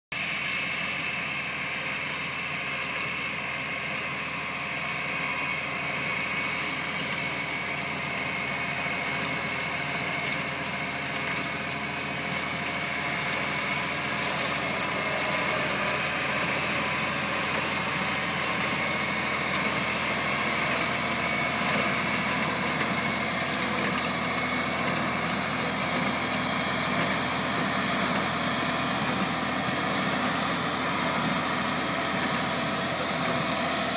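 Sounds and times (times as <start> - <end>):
square baler running: 0.2 - 33.9
tractor engine running: 0.2 - 33.9.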